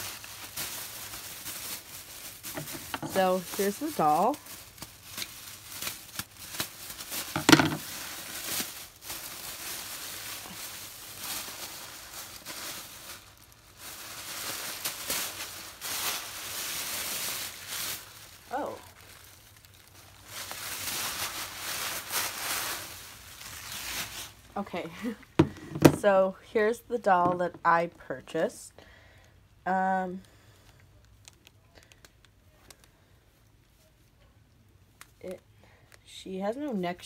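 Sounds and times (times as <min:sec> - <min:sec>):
plastic bag crinkling: 0:00.0 - 0:26.2, 0:30.2 - 0:33.8.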